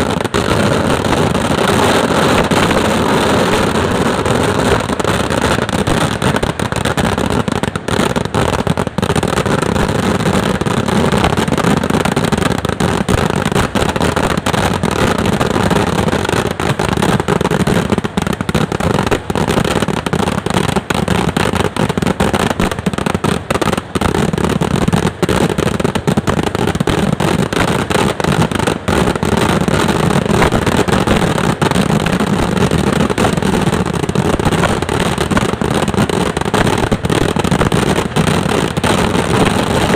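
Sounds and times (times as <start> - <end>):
firecrackers banging and crackling: 0.0 - 39.9.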